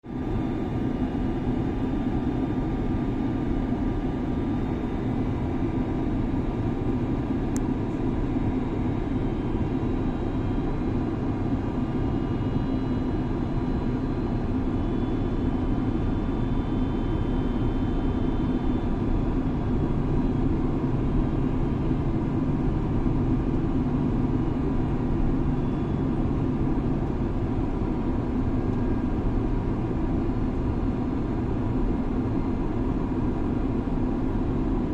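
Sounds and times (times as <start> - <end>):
jet engine drone in cabin: 0.0 - 34.9.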